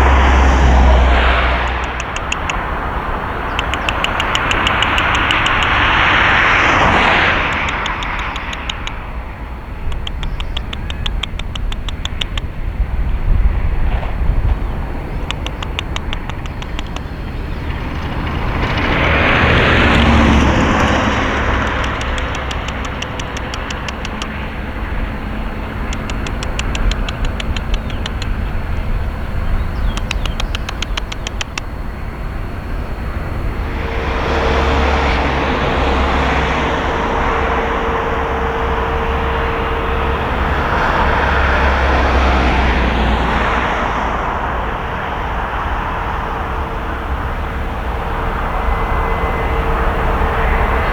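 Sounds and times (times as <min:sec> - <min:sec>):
jet engine rumble and whine: 0:00.0 - 0:50.9.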